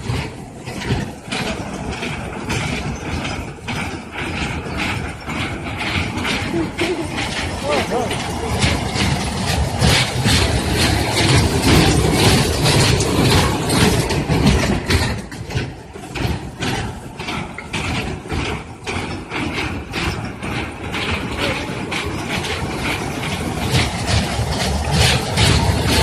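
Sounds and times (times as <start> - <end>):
train clattering over rumble: 0.0 - 26.0.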